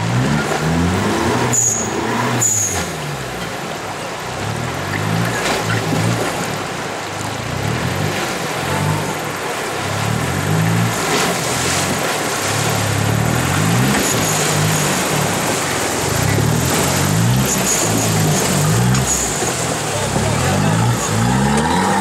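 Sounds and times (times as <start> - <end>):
pickup engine: 0.0 - 22.0
water splashing: 0.0 - 22.0.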